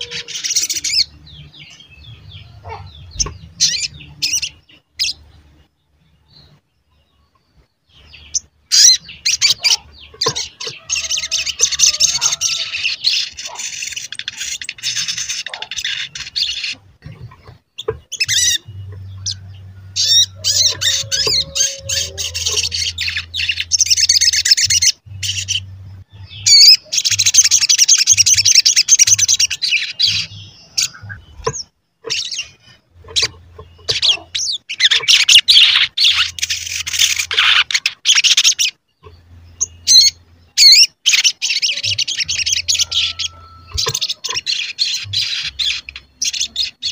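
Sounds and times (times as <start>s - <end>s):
bird twittering: 0.0s - 5.2s, 8.0s - 46.9s.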